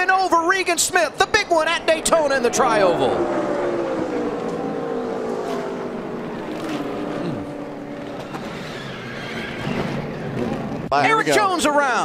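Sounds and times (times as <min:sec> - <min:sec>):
race car engines passing: 0:00.0 - 0:10.9
track noise: 0:00.0 - 0:10.9.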